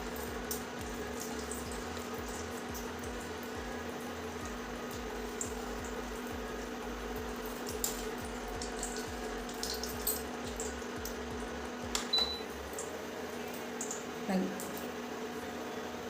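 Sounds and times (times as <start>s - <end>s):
steady low hum: 0.0s - 14.3s
faint frying crackle: 0.0s - 16.0s.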